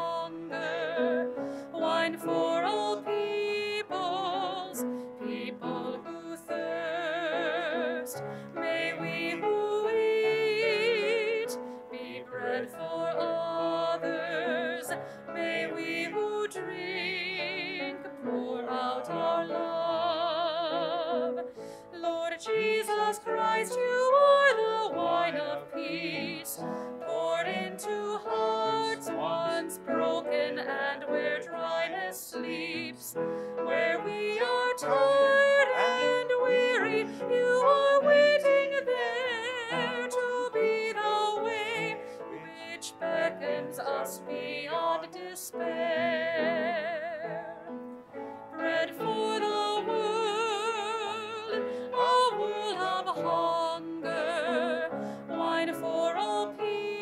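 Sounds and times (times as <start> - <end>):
woman singing a hymn: 0.0 - 47.4, 48.5 - 57.0
grand piano: 0.0 - 57.0.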